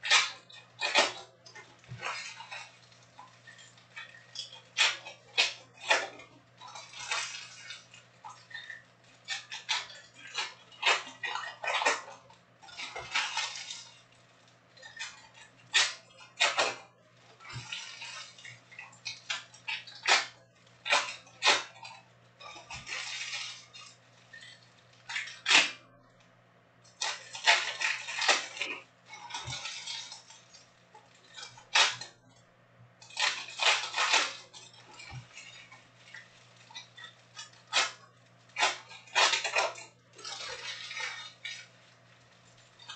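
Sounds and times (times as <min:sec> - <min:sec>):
foil wrappers crinkling: 0:00.0 - 0:32.4, 0:33.0 - 0:42.9.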